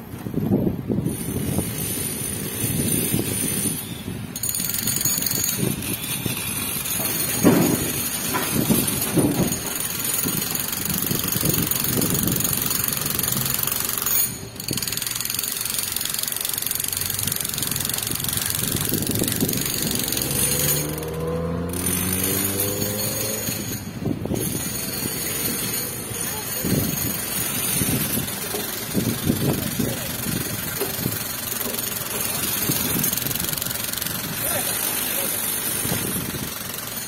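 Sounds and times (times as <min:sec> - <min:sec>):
cars passing on road: 0:00.0 - 0:37.0.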